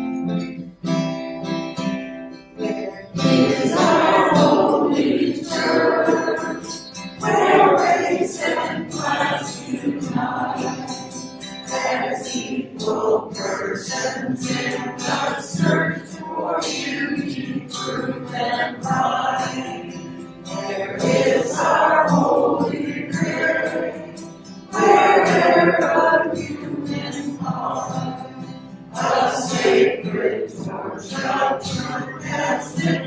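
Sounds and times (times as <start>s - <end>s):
group singing a hymn: 2.6s - 33.0s.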